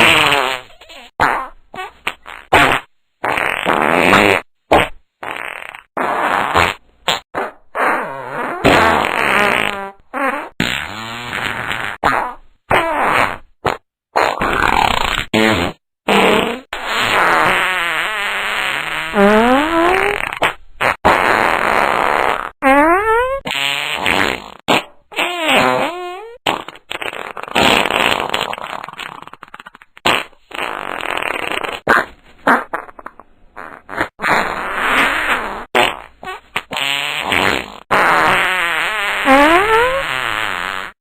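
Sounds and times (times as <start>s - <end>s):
fart noises: 0.0s - 41.0s.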